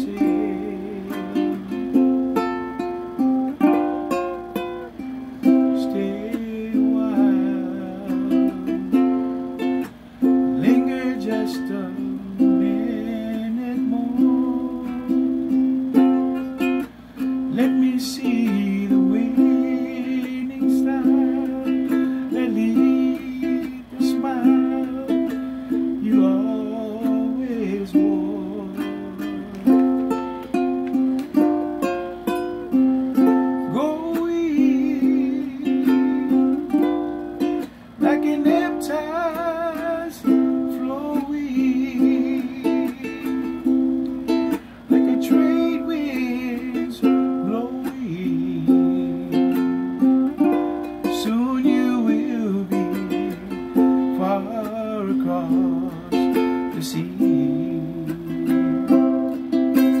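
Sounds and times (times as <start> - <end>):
man singing: 0.0 - 60.0
ukulele strumming: 0.0 - 60.0.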